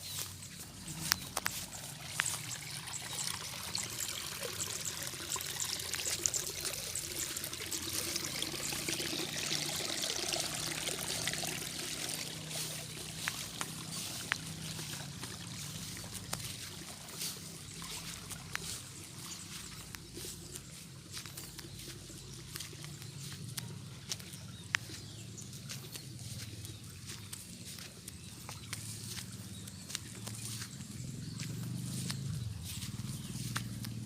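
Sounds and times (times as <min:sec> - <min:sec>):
water trickling and splashing: 0:00.0 - 0:34.0.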